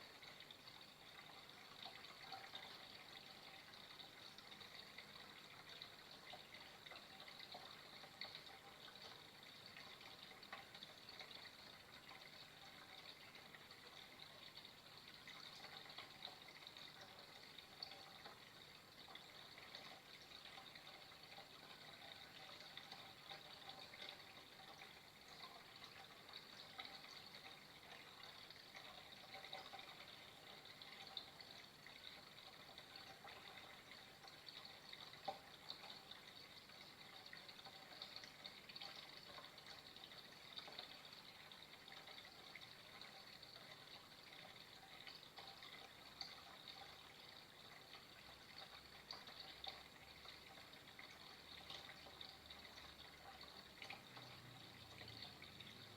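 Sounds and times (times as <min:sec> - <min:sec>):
faint trickling water: 0:00.0 - 0:55.9
water drips and splashes: 0:00.0 - 0:55.9.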